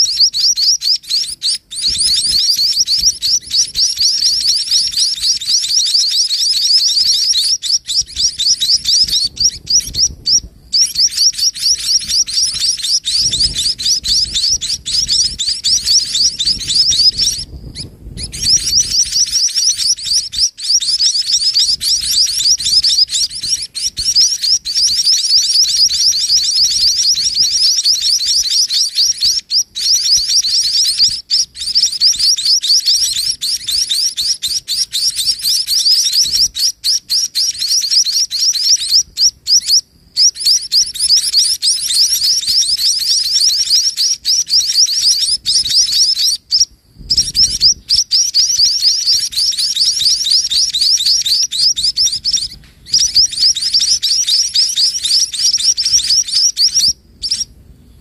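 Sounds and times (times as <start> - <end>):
nestlings chirping: 0.0 - 57.5.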